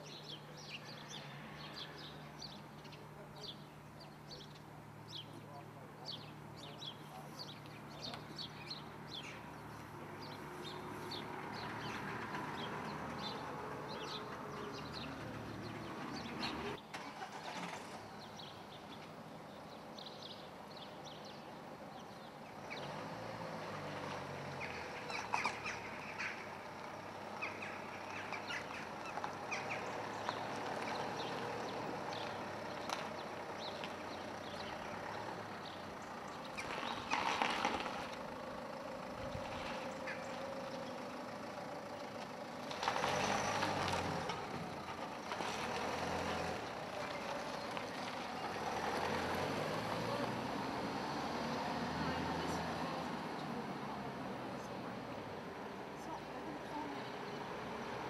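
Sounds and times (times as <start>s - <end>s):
motor traffic passing: 0.0s - 58.0s.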